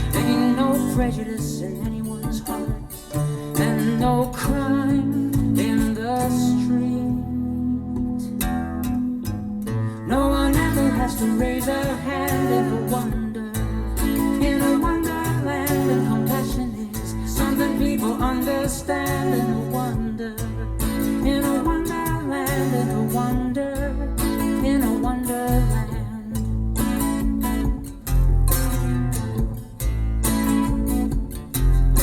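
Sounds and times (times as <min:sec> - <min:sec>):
acoustic guitar: 0:00.0 - 0:32.0
bass line: 0:00.0 - 0:32.0
country song: 0:00.0 - 0:32.0.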